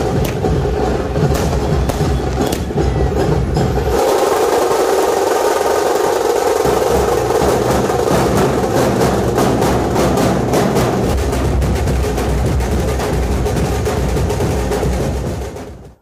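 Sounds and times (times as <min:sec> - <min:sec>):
drums beaten in fast rhythm: 0:00.0 - 0:16.0.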